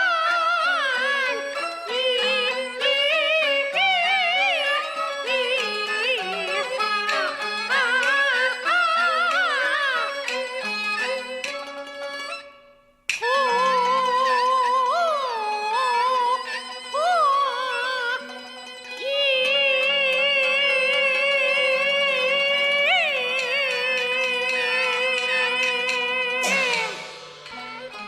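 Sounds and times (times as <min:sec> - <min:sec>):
high female opera singing: 0:00.0 - 0:10.6, 0:13.2 - 0:18.3, 0:19.0 - 0:27.2
instrumental accompaniment: 0:00.0 - 0:28.0.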